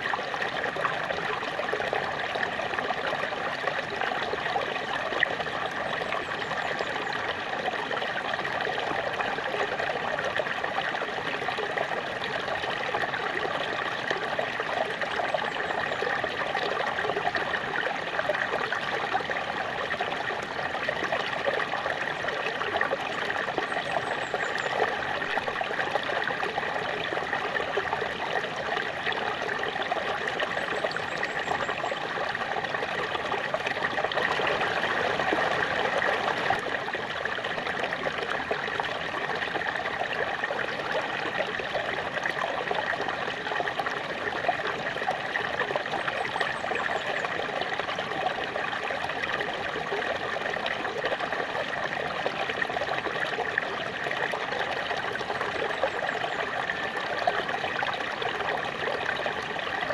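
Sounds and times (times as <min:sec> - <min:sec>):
small waterfall splashing: 0:00.0 - 0:59.9.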